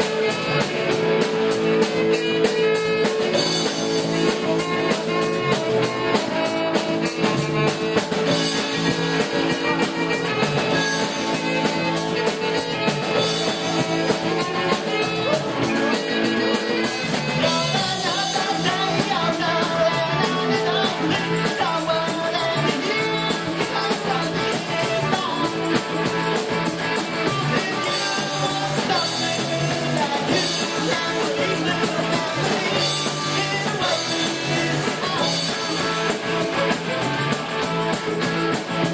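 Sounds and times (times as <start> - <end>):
drum kit: 0.0 - 38.9
electric guitar: 0.0 - 38.9
person singing: 0.0 - 38.9.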